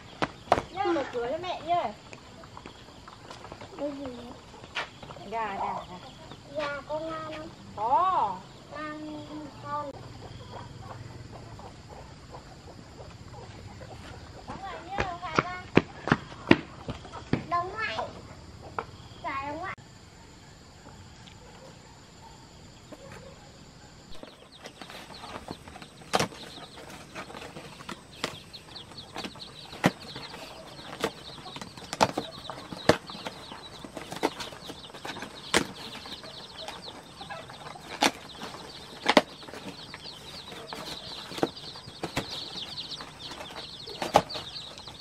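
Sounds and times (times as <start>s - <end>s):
chicks peeping: 0.0s - 19.7s, 24.1s - 45.0s.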